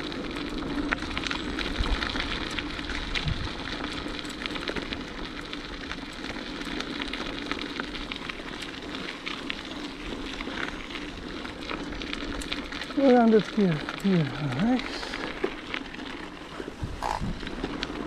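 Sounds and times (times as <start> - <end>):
bicycle tyres rolling on gravel: 0.0 - 18.0.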